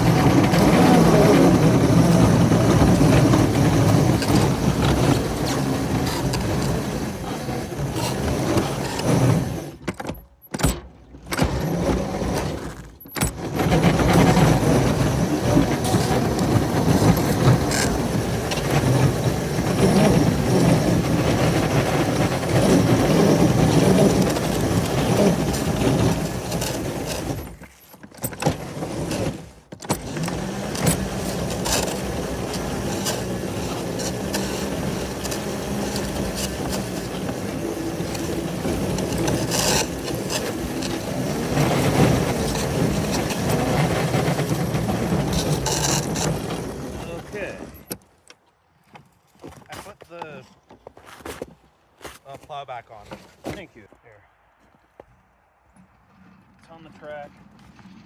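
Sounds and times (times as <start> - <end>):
locomotive running with metallic rattle: 0.0 - 48.0.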